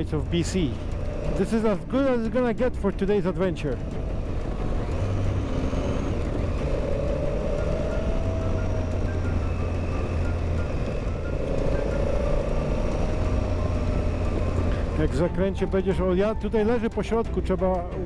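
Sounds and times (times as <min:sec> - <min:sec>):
high whine: 0:00.0 - 0:16.0
motorcycle engine running: 0:00.0 - 0:18.0.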